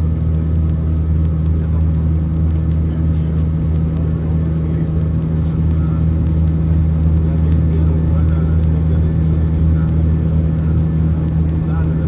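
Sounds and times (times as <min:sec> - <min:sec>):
jet cabin drone: 0:00.0 - 0:12.0.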